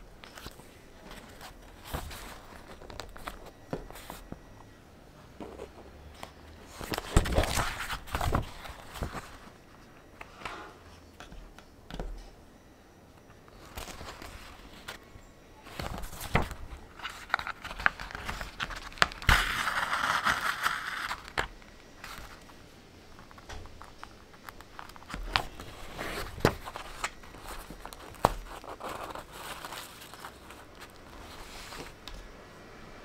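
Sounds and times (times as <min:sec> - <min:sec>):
paper pages rustling: 0:00.2 - 0:04.4, 0:05.4 - 0:10.5, 0:13.5 - 0:15.0, 0:15.7 - 0:32.3.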